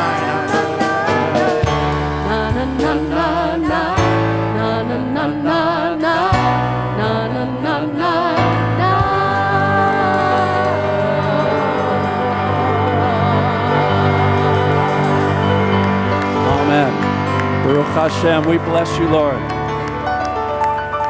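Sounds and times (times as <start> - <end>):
person singing with vibrato: 0.0 - 16.9
worship music: 0.0 - 21.0.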